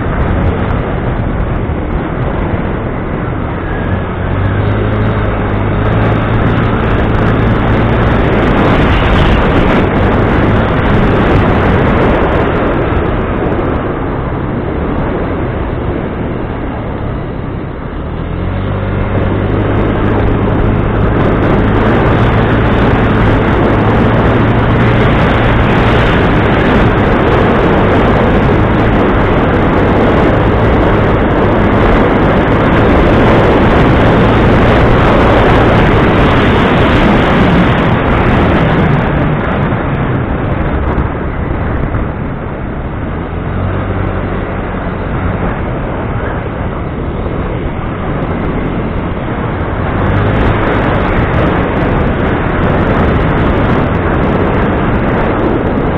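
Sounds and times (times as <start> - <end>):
engine humming: 0.0 - 55.9
loud rushing noise: 0.0 - 55.9.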